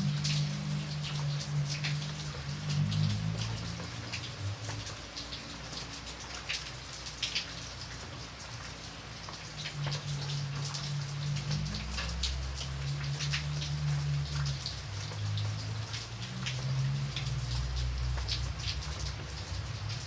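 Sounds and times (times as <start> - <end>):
light rain drops: 0.0 - 20.0.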